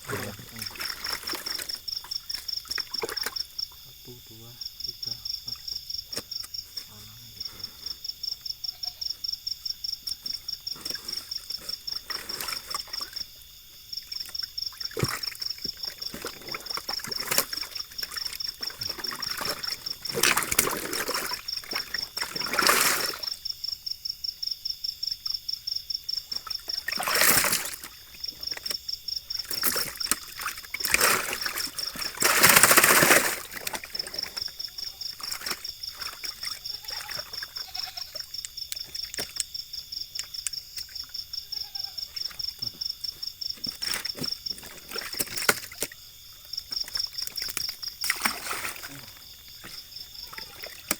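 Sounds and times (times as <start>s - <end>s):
water splashing: 0.0s - 7.8s, 10.1s - 23.4s, 26.2s - 50.9s
insects chirping: 0.0s - 50.9s.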